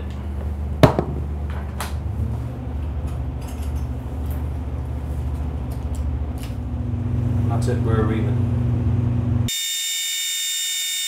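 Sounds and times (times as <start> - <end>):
drilling rig engine humming: 0.0 - 9.5.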